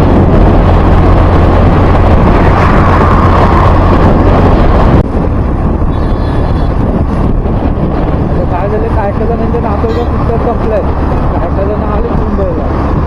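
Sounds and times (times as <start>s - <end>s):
vehicle road noise: 0.0s - 13.0s
wind on microphone: 0.0s - 13.0s.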